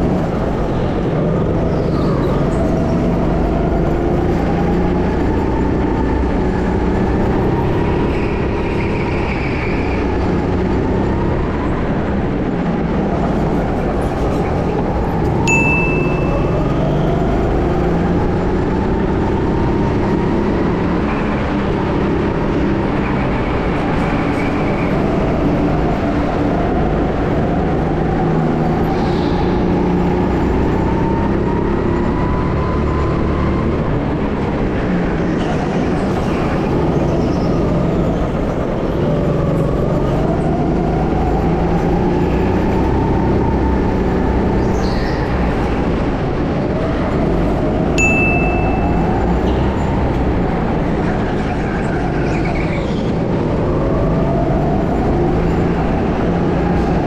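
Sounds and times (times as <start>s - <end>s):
wind and track noise: 0.0s - 57.0s.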